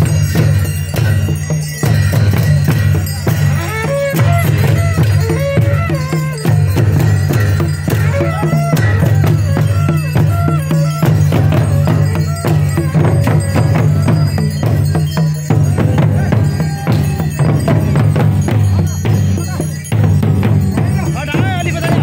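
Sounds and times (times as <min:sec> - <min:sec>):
drums beating rapidly: 0:00.0 - 0:22.0
jingling percussion: 0:00.0 - 0:22.0.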